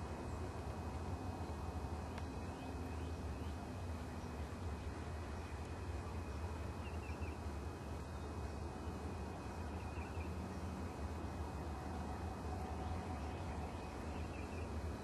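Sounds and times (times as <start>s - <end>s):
low rumble and hiss: 0.0s - 15.0s
songbird chirps: 0.0s - 15.0s.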